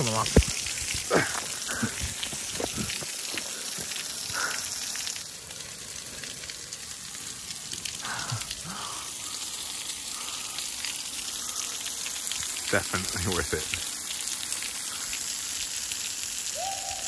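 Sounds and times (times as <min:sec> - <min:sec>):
rushing water hiss: 0:00.0 - 0:17.0.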